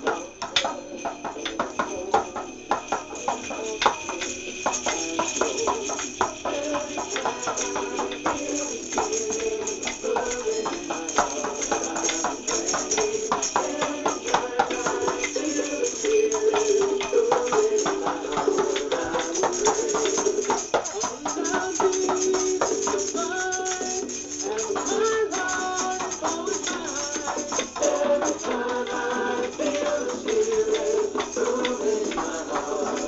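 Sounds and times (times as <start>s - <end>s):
children playing hand percussion: 0.0s - 33.0s
song: 0.0s - 33.0s.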